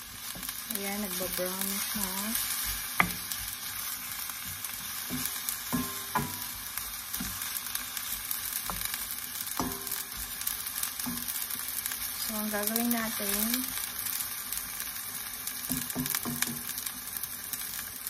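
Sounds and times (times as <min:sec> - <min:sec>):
meat sizzling in a wok: 0:00.0 - 0:18.0.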